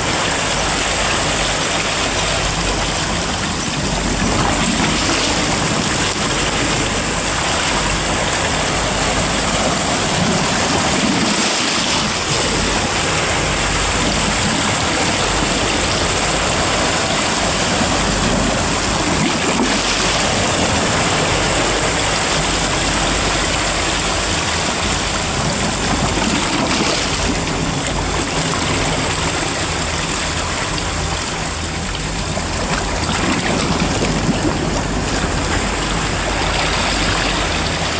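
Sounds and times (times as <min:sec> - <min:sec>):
sea surf washing: 0:00.0 - 0:37.9.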